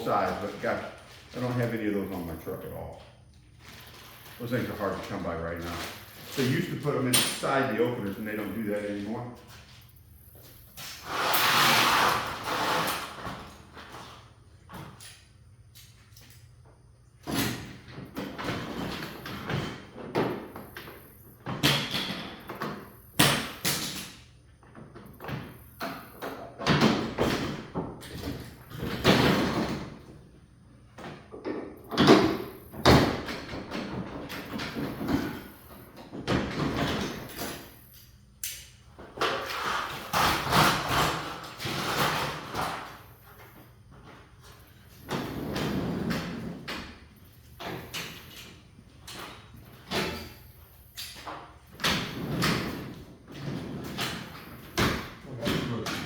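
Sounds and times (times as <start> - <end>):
garage door rumbling and clattering: 10.8 - 56.0.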